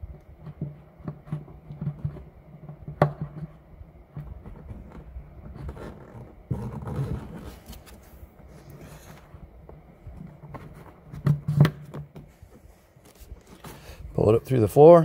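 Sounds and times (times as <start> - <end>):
scraping and rustling of wires: 0.0 - 15.0.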